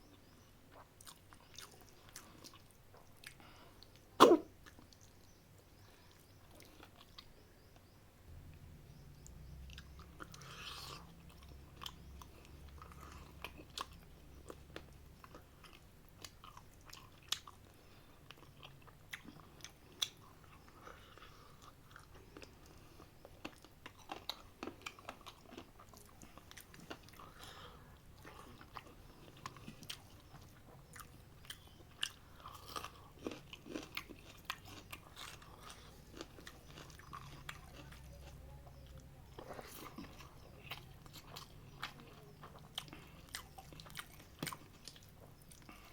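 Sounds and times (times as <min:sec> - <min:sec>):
faint low hum: 0:00.0 - 0:45.9
person chewing: 0:00.1 - 0:07.3, 0:09.2 - 0:45.9.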